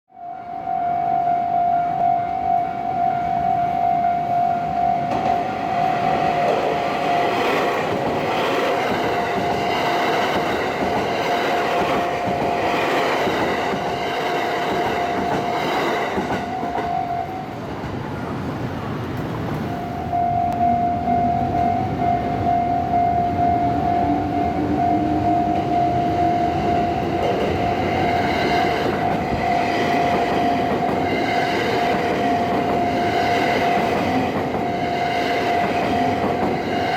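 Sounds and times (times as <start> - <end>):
level crossing alarm tone: 0.2 - 17.5, 19.8 - 36.9
train wheels rumbling on rails: 4.7 - 36.9.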